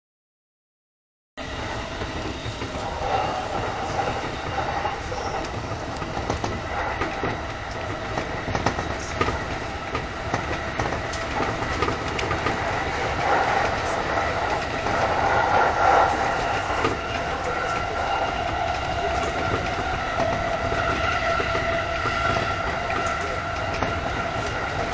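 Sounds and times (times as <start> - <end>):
train rumbling on track: 1.4 - 24.9
wheels clacking over rail joints: 2.0 - 24.9.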